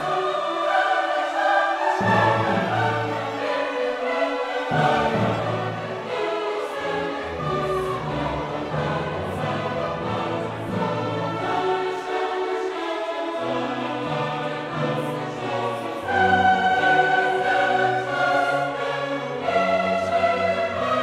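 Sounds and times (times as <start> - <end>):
choir singing held notes: 0.0 - 21.0
orchestra playing: 0.0 - 21.0.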